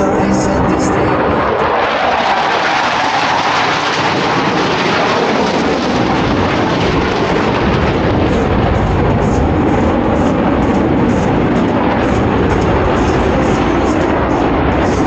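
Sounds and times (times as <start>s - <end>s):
jets flying past: 0.0s - 15.0s.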